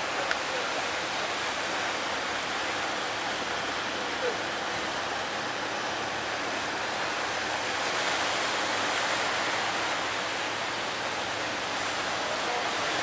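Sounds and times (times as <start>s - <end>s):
sea waves breaking: 0.0s - 13.0s.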